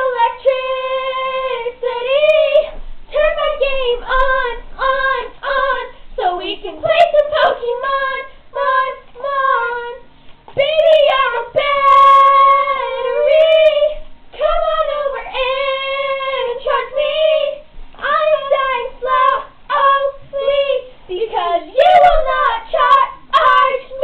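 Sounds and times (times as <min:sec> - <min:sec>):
girls singing unaccompanied: 0:00.0 - 0:24.0.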